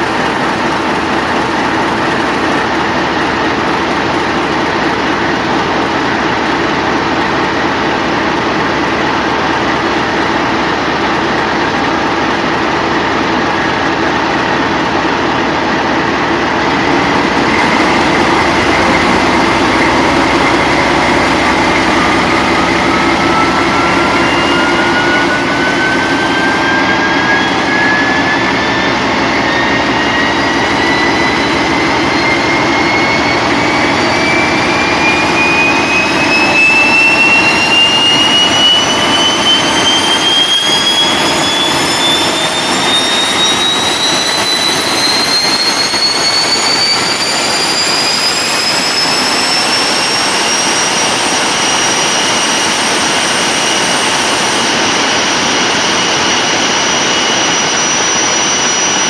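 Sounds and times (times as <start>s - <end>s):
diesel locomotive engine running: 0.0s - 59.0s
high turbocharger whistle: 0.0s - 59.0s.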